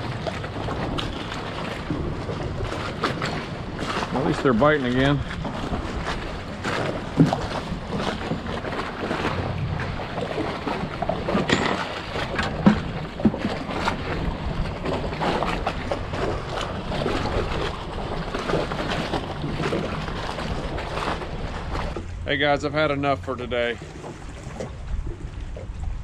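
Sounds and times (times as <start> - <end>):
water slapping against hull: 0.0 - 26.0
wind on microphone: 0.0 - 26.0.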